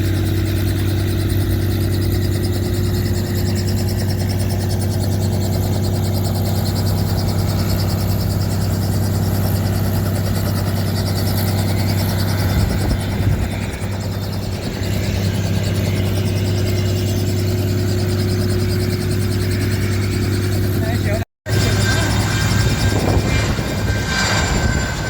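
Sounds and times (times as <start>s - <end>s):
helicopter engine and rotor drone: 0.0s - 25.0s.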